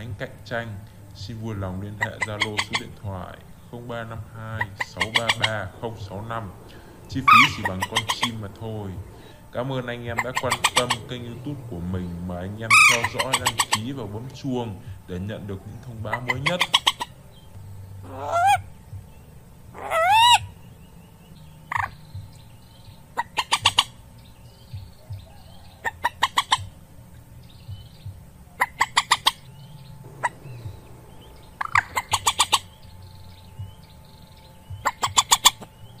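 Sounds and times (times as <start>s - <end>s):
moorhen clucking: 0.0s - 36.0s
moorhen croak: 0.0s - 36.0s.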